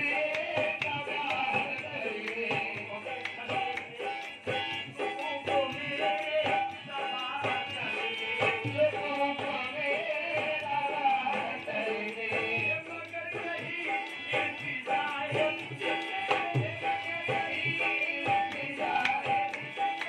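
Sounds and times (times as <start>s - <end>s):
person singing: 0.0s - 20.0s
tabla drumming: 0.0s - 20.0s.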